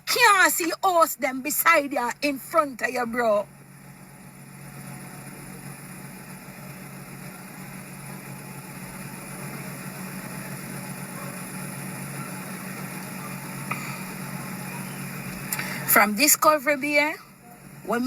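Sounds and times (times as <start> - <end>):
engine humming with hiss: 0.0 - 18.0.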